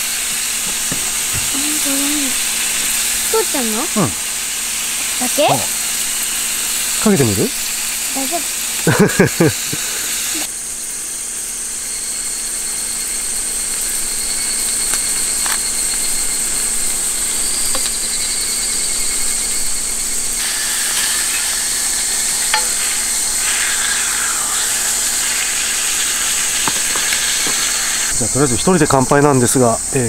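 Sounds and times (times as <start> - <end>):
steaks sizzling on a griddle: 0.0 - 11.4, 12.0 - 28.9.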